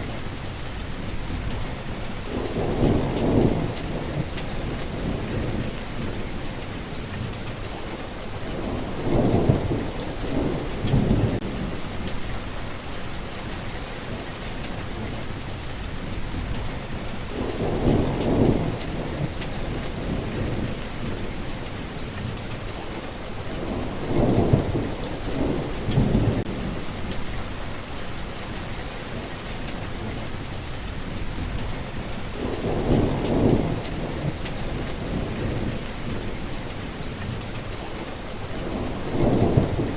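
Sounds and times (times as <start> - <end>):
thunder rumbling: 0.0 - 6.9, 8.4 - 22.7, 23.4 - 39.9
heavy rain falling: 0.0 - 39.9.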